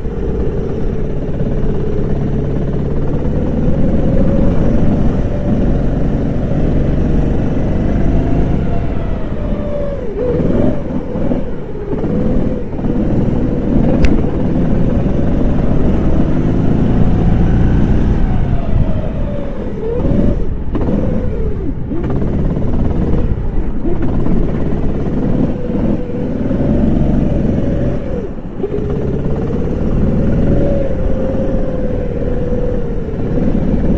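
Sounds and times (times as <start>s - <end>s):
go-kart engine at high revs: 0.0s - 33.9s.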